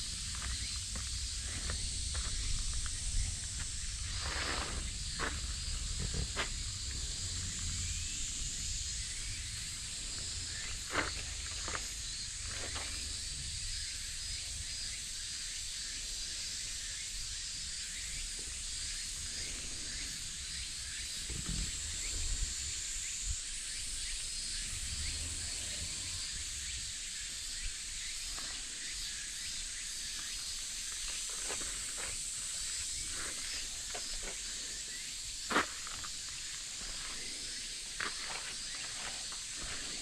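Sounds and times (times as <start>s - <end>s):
cicadas chorus: 0.0s - 40.0s.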